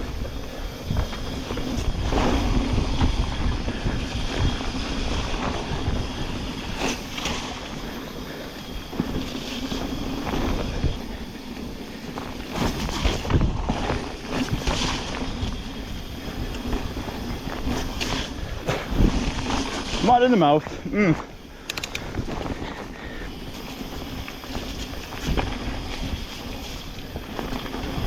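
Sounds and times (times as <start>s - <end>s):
bike knocking and rattling: 0.0s - 28.0s
wind buffeting microphone: 0.0s - 28.0s.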